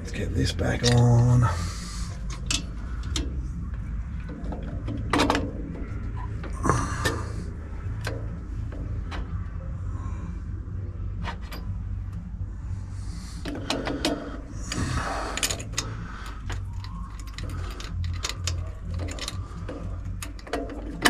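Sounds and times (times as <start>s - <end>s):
metal parts knocking and clinking: 0.0s - 9.6s, 11.2s - 12.2s, 13.4s - 21.0s
low steady hum: 0.0s - 21.0s.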